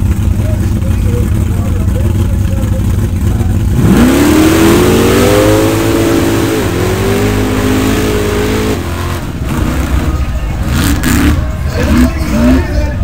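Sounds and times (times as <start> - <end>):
truck engine revving at full throttle: 0.0 - 13.0.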